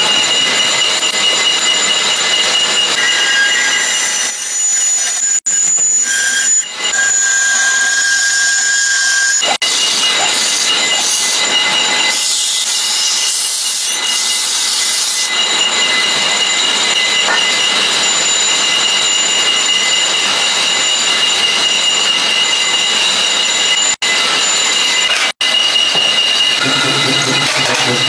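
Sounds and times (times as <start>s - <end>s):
power tool screeching on metal: 0.0s - 28.0s.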